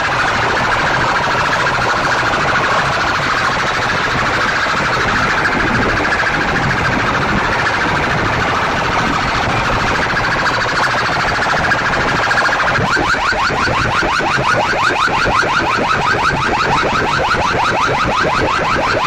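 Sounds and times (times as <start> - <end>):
distorted siren-like sound from loudspeakers: 0.0 - 19.0.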